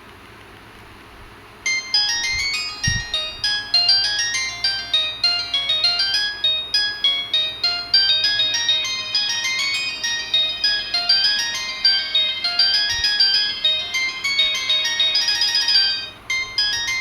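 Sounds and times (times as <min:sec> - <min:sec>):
polyphonic phone ringtone: 0:01.7 - 0:17.0.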